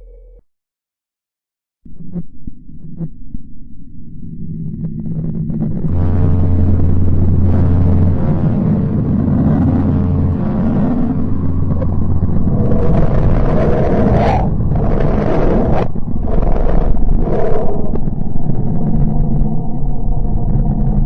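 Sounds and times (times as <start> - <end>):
deep droning rumble: 1.9 - 21.0.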